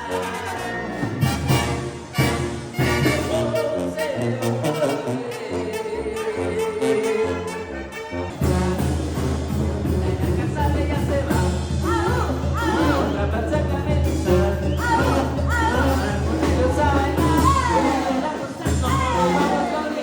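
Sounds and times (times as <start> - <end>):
banda music: 0.0 - 20.0.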